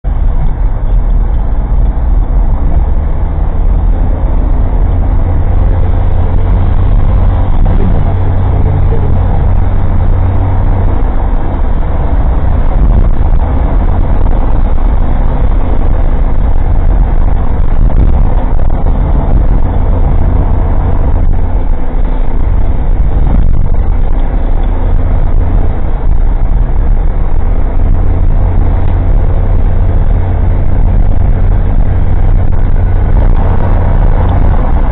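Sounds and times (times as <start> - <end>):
car engine running: 0.0 - 34.9
road noise: 0.0 - 34.9.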